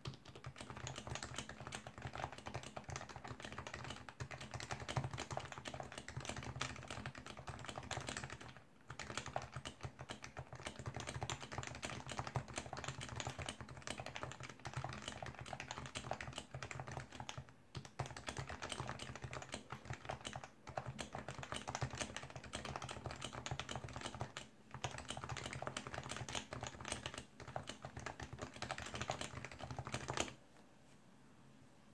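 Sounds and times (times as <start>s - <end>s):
keyboard typing: 0.0s - 30.4s.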